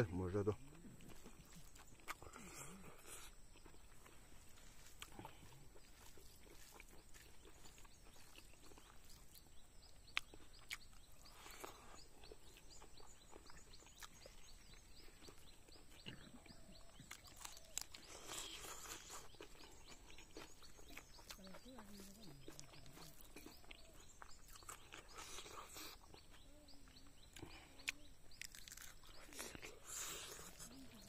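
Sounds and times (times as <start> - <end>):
chewing and wet mouth clicks: 0.7 - 4.2, 4.8 - 31.0.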